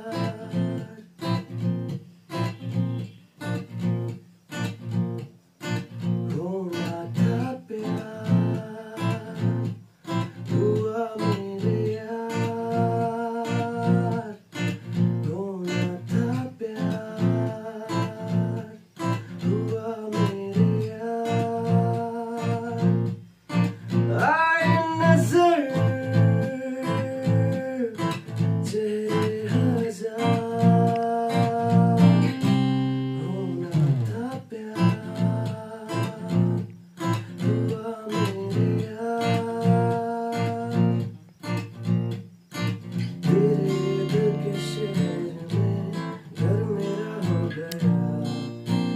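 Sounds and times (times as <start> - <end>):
person singing: 0.0 - 1.4, 6.3 - 14.6, 15.2 - 41.0, 43.2 - 48.9
strummed acoustic guitar: 0.0 - 48.9.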